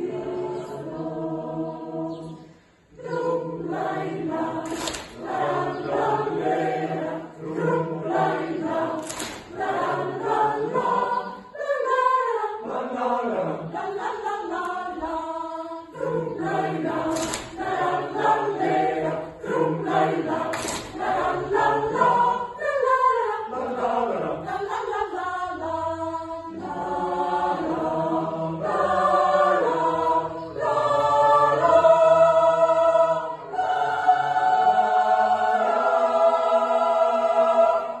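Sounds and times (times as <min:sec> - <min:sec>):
mixed choir singing a cappella: 0:00.0 - 0:38.0.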